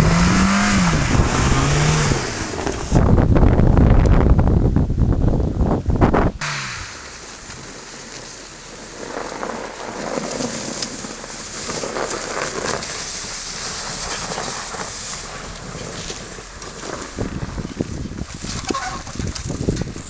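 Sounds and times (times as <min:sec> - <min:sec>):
tyres rushing on snow: 0:00.0 - 0:03.8, 0:06.4 - 0:20.0
snow crackling: 0:00.0 - 0:05.2, 0:06.0 - 0:20.0.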